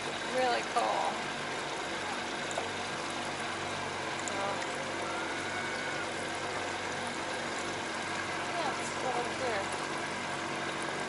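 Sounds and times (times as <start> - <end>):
rushing water around boat: 0.0 - 11.0.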